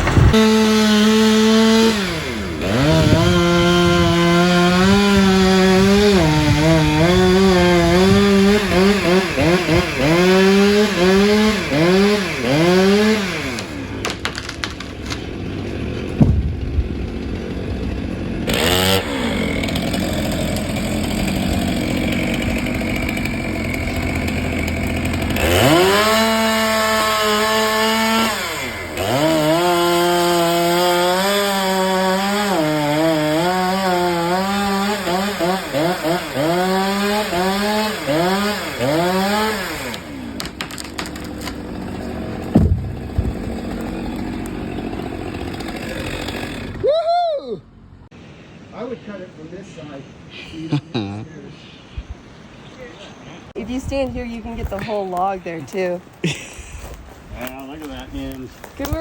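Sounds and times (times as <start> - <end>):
chainsaw cutting wood: 0.0 - 46.9, 53.6 - 59.0.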